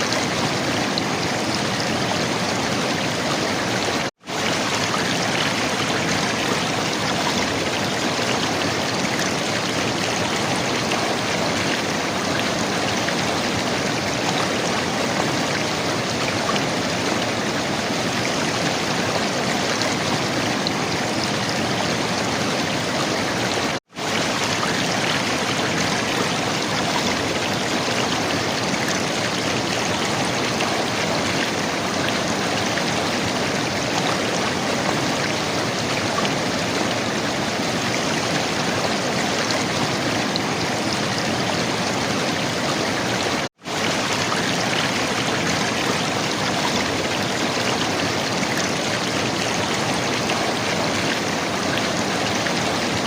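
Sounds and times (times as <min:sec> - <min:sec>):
river water gurgling: 0:00.0 - 0:53.0.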